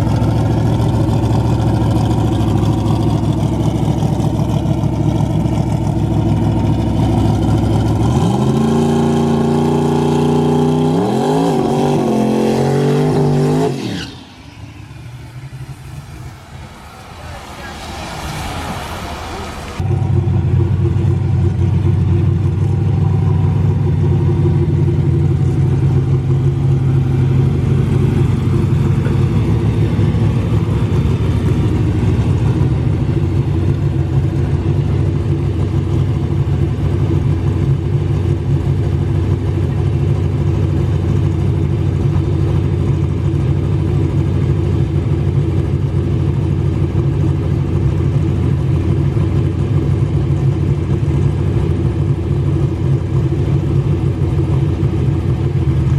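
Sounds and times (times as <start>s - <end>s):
car engine idling: 0.0s - 10.4s, 14.3s - 55.9s.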